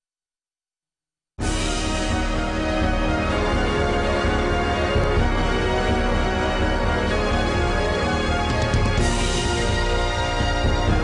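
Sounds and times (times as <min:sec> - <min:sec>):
news theme music with heavy bass: 0:01.4 - 0:11.0.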